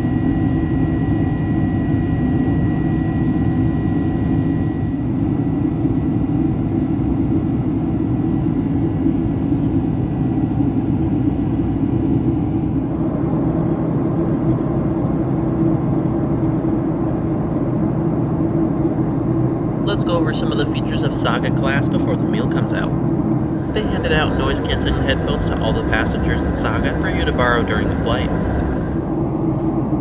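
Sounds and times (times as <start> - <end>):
jet engine roar in cabin: 0.0 - 30.0.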